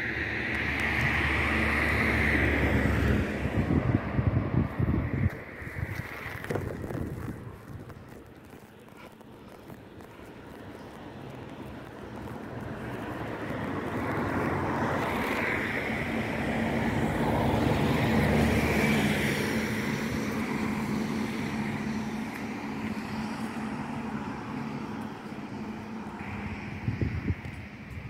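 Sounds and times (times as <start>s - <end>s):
vehicle passing by: 0.0s - 7.4s, 12.0s - 28.0s.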